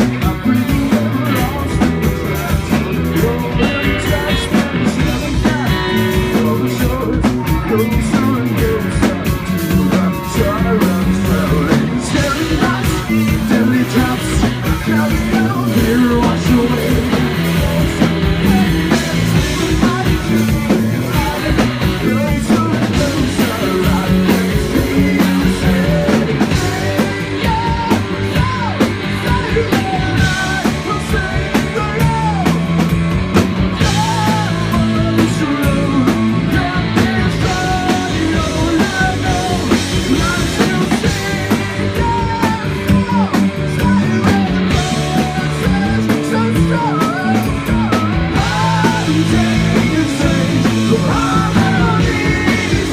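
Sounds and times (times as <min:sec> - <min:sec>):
bass guitar: 0:00.0 - 0:52.9
distorted guitar: 0:00.0 - 0:52.9
drum kit: 0:00.0 - 0:52.9.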